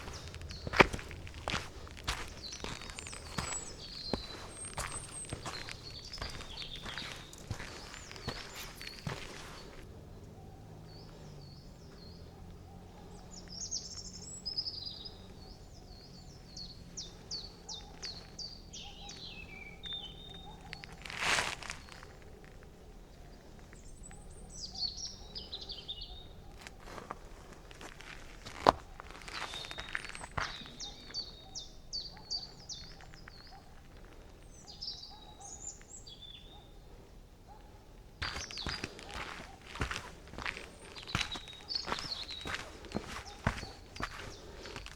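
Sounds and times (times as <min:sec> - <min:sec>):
quiet woodland background: 0:00.0 - 0:44.9
songbirds singing: 0:00.0 - 0:44.9.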